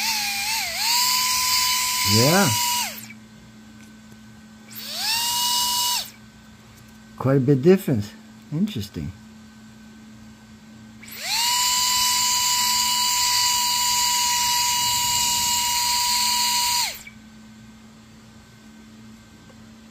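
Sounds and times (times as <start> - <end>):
electric ducted fan whine: 0.0 - 19.9.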